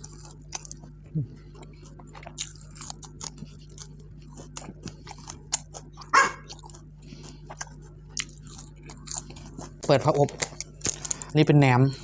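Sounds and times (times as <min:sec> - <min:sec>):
chewing and crunching vegetables: 0:00.0 - 0:12.0.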